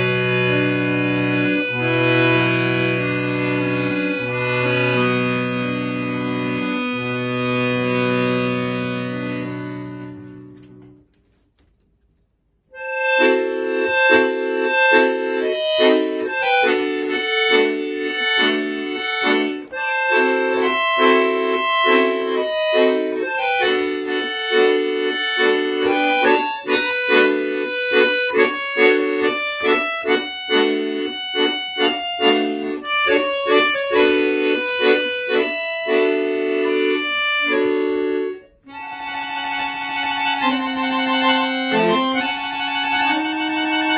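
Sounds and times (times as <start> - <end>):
accordion playing: 0.0 - 11.4, 12.7 - 43.9.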